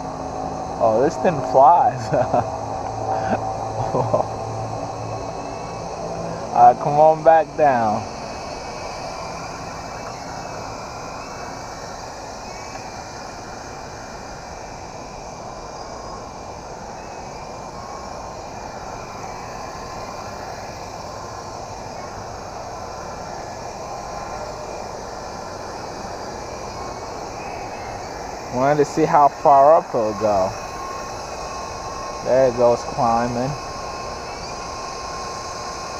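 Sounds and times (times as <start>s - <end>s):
constant rushing noise: 0.0s - 35.9s
toy helicopter motor whirring: 0.0s - 35.9s.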